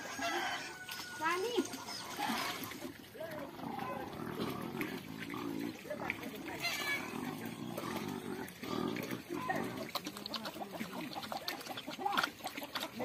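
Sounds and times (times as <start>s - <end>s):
pig slurping and chomping: 0.0s - 13.0s
pig grunting: 2.2s - 13.0s.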